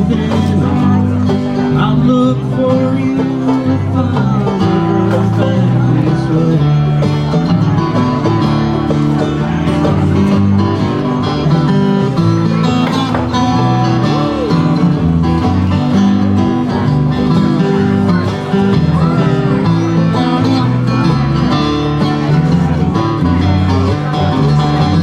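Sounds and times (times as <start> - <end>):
banjo picking: 0.0 - 25.0
guitars strumming and picking: 0.0 - 25.0
upright bass line: 0.0 - 25.0.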